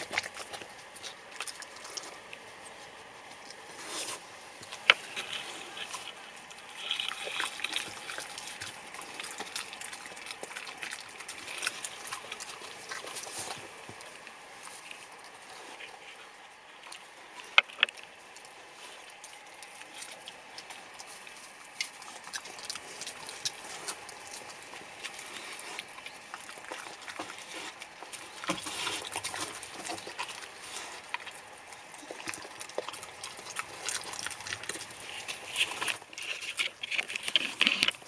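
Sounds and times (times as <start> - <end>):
pet chewing food: 0.0 - 38.0.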